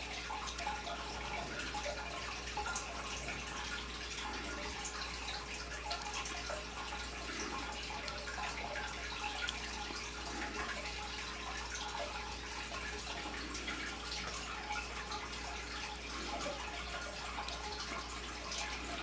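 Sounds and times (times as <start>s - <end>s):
water trickling and dripping: 0.0s - 19.0s.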